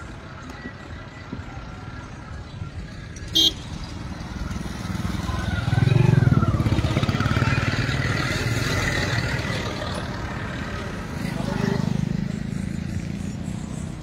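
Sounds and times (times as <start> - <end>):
vehicles passing with engine rumble: 0.0 - 14.0.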